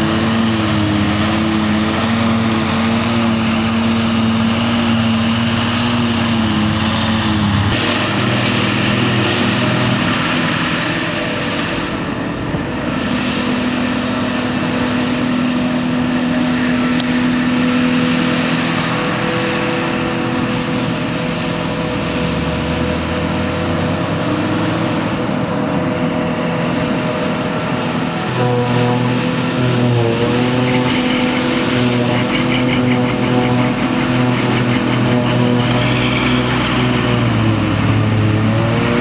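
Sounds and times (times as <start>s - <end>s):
forage harvester mechanical drone: 0.0s - 39.0s
tractor engine running: 0.0s - 39.0s.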